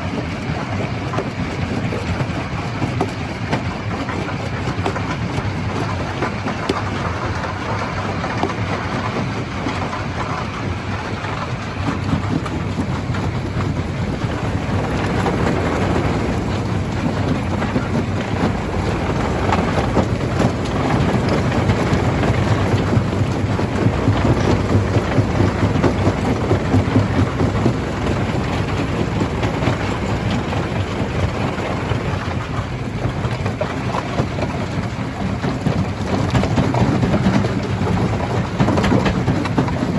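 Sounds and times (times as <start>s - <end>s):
stone crusher rumbling: 0.0s - 39.9s
rock crackling and clattering: 0.1s - 39.9s.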